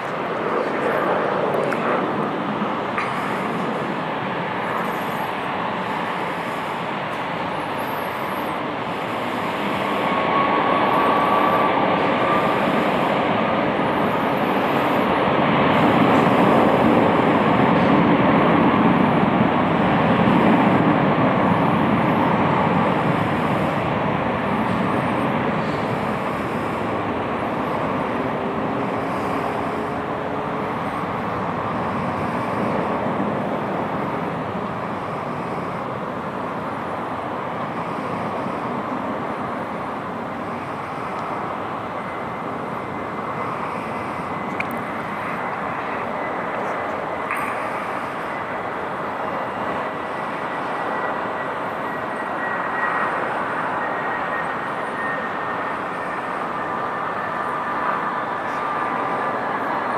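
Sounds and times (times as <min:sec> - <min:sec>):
jet engines at takeoff power: 0:00.0 - 0:59.9.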